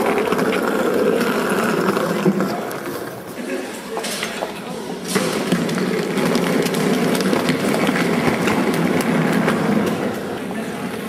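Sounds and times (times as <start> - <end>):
suitcase wheels rattling on pavement: 0.0 - 3.4, 4.9 - 11.0.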